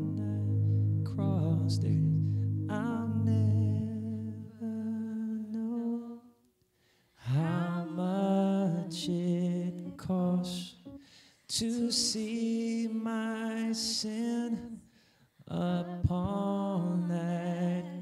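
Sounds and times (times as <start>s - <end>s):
wordless sung melody: 0.0s - 6.5s, 7.1s - 18.0s.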